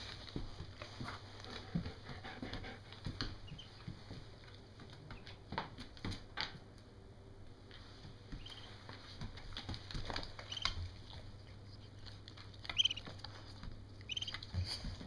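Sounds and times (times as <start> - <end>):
feet and paws on wooden floor: 0.0 - 15.0.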